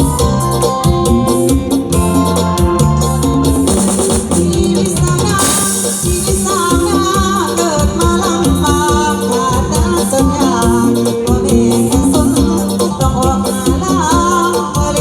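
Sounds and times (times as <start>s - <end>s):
band with steady beat: 0.0s - 15.0s.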